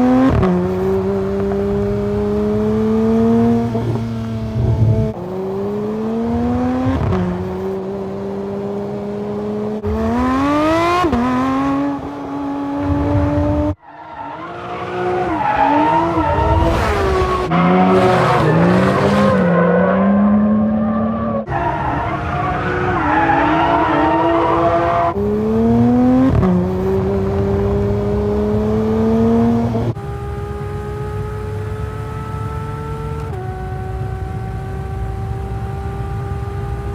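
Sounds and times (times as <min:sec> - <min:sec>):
car engine accelerating through gears: 0:00.0 - 0:36.9.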